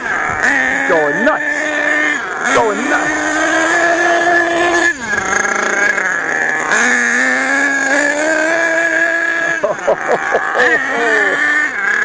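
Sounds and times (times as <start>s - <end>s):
small engine revving high: 0.0s - 12.0s.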